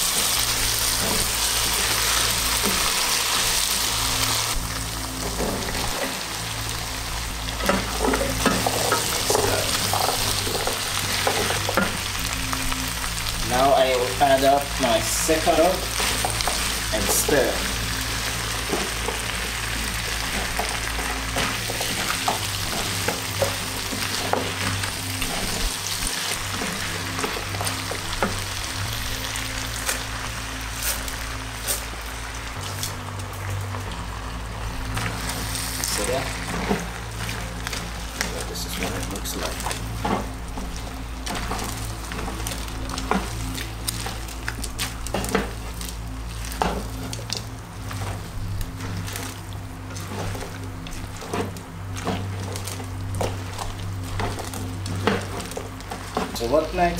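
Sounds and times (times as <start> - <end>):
vegetables sizzling in a pot: 0.0 - 56.9.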